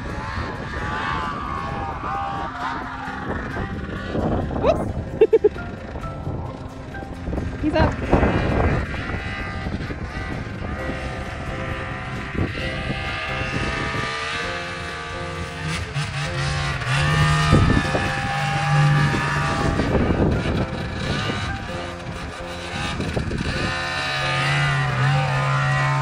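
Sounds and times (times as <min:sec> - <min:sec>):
snowmobile engine revving: 0:00.0 - 0:06.0, 0:06.6 - 0:26.0.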